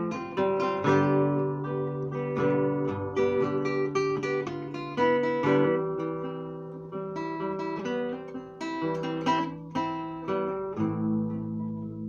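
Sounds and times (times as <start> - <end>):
fingerstyle acoustic guitar: 0.0 - 12.0.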